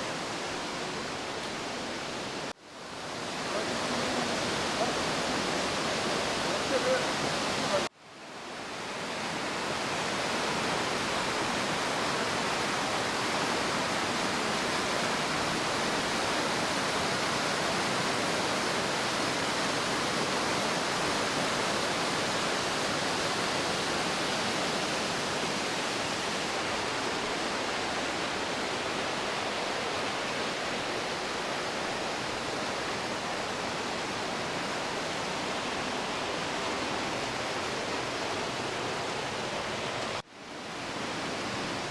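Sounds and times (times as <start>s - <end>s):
running water rushing: 0.0s - 41.9s.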